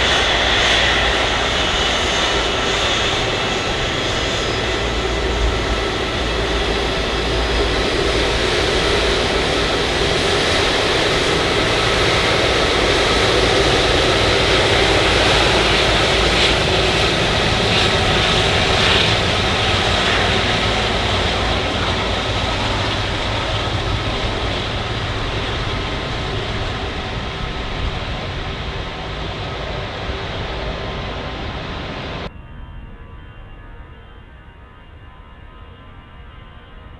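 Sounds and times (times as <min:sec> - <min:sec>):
jet engine rushing: 0:00.0 - 0:32.3.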